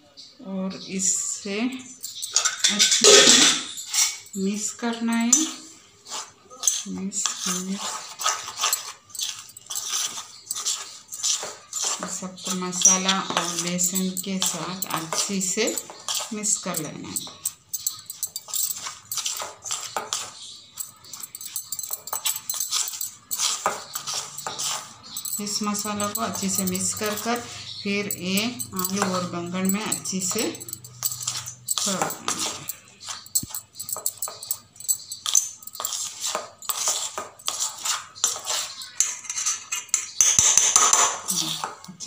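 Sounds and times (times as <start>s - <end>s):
metal spoon scraping steel bowl: 1.0s - 42.0s.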